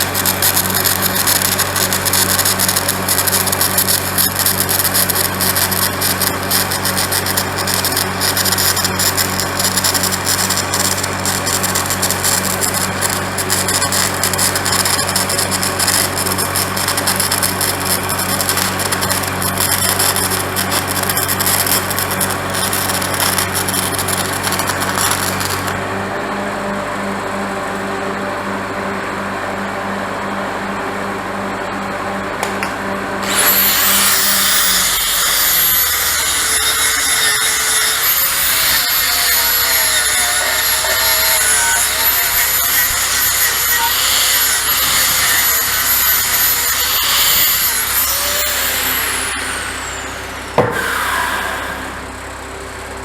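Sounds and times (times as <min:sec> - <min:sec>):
welding arc crackling: 0:00.0 - 0:25.8, 0:32.5 - 0:52.4
welder engine humming: 0:00.0 - 0:26.1, 0:32.1 - 0:53.0.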